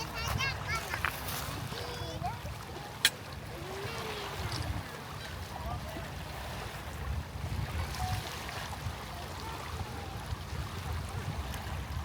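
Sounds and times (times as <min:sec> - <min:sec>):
soft wash of water: 0:00.0 - 0:12.0.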